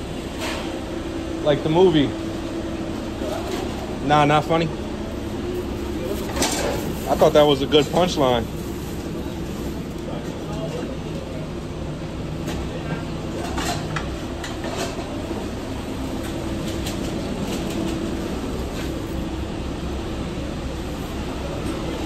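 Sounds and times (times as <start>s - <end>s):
kitchen equipment drone: 0.0s - 22.0s.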